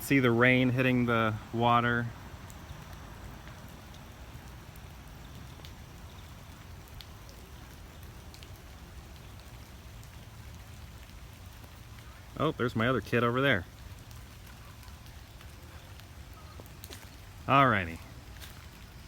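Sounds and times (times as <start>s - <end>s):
light rain on pond: 0.0s - 19.0s.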